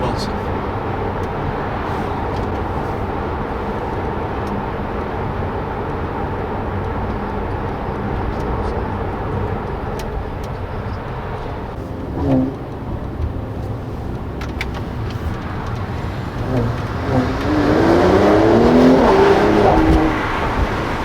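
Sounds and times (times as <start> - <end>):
car engine running: 0.0 - 21.0
road and tyre rumble: 0.0 - 21.0.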